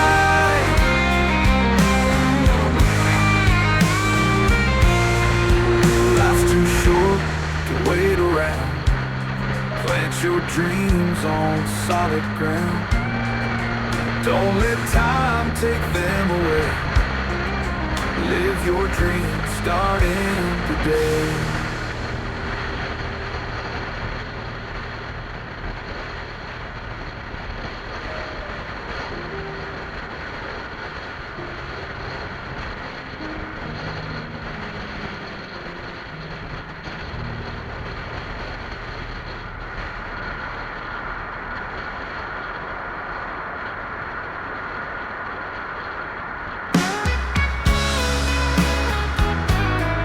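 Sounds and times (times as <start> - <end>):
wind and road noise: 0.0 - 46.8.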